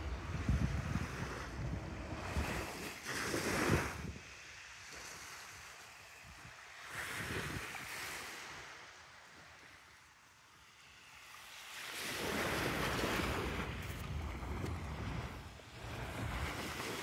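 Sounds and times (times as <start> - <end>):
wind rumble on microphone: 0.0 - 8.9, 11.9 - 17.0
small waves washing onto sand: 0.0 - 17.0.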